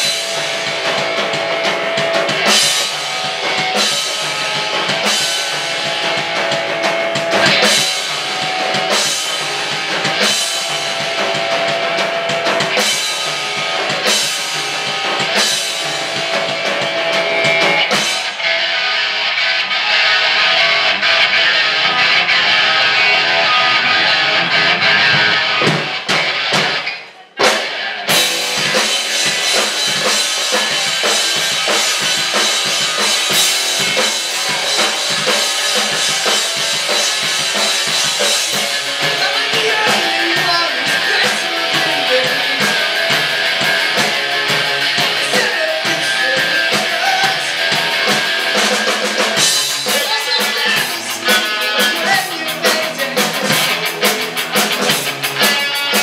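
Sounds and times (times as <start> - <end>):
steady drumming: 0.0 - 18.6, 20.9 - 56.0
live rock band playing: 0.0 - 56.0.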